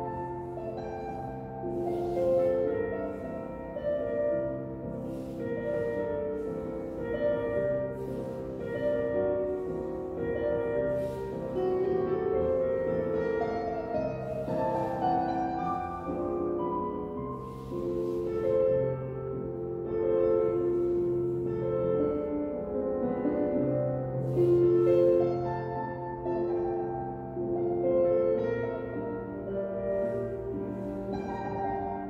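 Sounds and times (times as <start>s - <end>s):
classical piano music: 0.0s - 32.0s.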